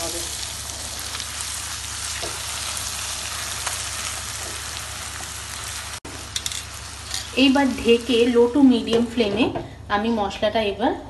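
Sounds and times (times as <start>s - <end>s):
masala sizzling in hot oil: 0.0s - 9.2s.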